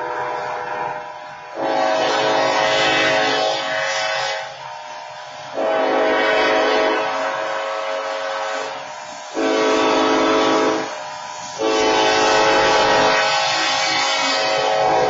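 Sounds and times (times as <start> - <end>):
train horn blasts: 0.0 - 4.7, 5.5 - 15.0.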